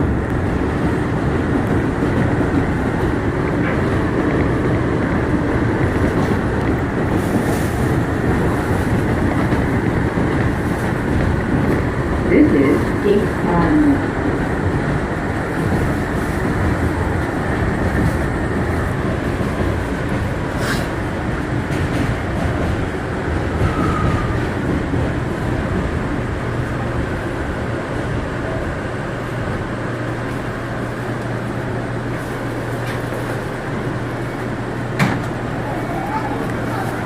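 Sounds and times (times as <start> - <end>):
subway train rumble and rattle: 0.0 - 37.0.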